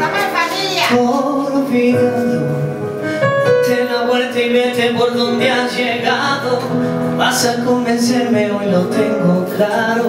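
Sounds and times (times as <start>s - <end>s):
piano keyboard chords: 0.0s - 10.0s
man singing: 0.8s - 10.0s.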